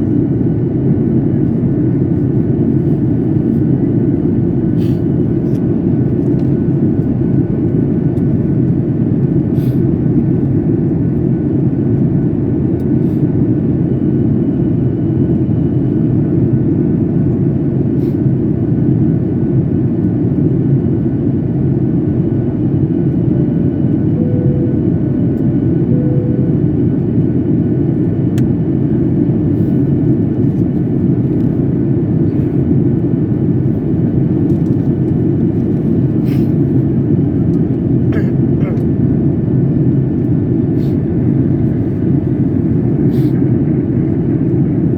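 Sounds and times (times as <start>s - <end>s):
jet cabin engine roar: 0.0s - 44.9s.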